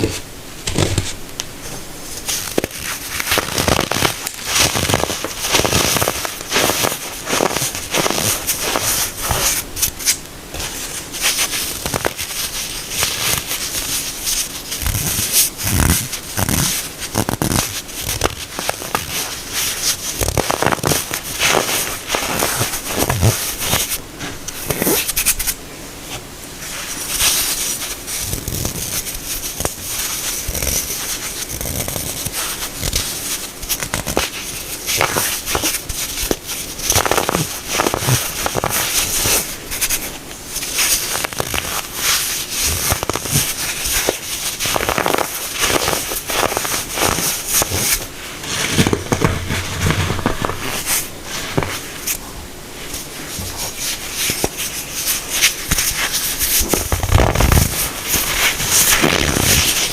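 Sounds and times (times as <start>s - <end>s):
baking soda crushed crunching: 2.2s - 25.5s, 26.8s - 52.2s, 52.9s - 59.9s.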